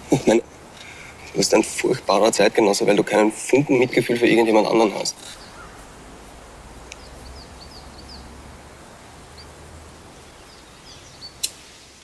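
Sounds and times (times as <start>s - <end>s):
small birds chirping: 0.0s - 11.7s
steady low hum: 0.0s - 12.0s.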